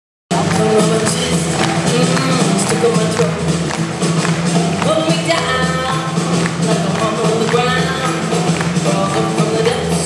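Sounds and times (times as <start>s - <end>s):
drum kit: 0.3s - 10.0s
electric guitars: 0.3s - 10.0s
live rockabilly band playing: 0.3s - 10.0s
pulsing bass line: 0.3s - 10.0s.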